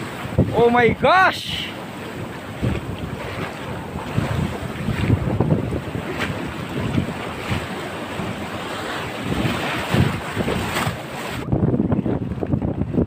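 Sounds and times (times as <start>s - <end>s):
surf washing over rocky shore: 0.0s - 13.0s
wind buffeting microphone: 0.0s - 13.0s.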